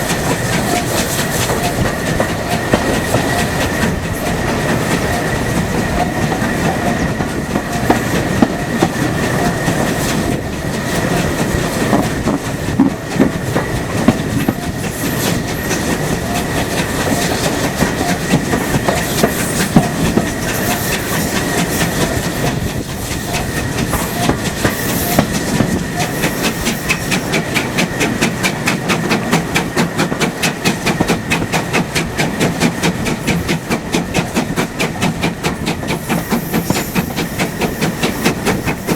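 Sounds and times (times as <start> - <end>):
train wheels clickety-clack: 0.0 - 38.9.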